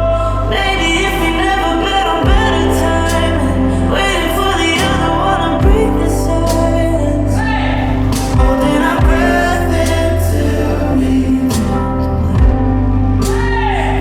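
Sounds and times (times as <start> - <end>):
pop song with vocals: 0.0 - 14.0.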